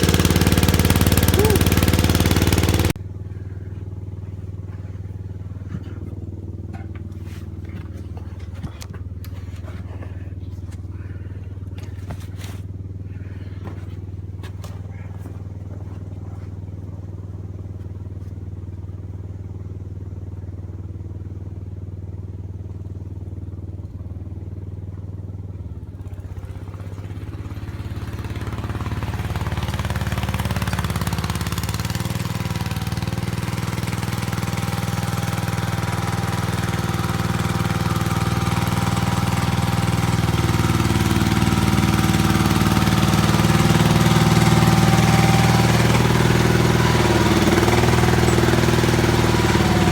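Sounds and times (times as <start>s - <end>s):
tractor engine idling: 0.0s - 49.9s.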